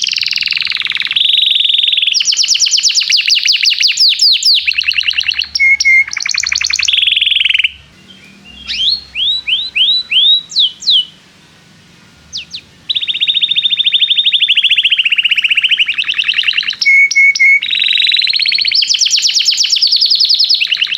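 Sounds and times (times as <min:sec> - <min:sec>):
canary singing trills: 0:00.0 - 0:20.9.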